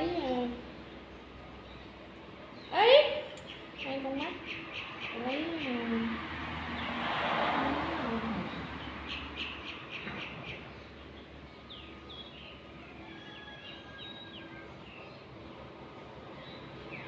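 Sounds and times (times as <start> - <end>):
birds chirping: 0.0 - 7.1, 8.0 - 17.0.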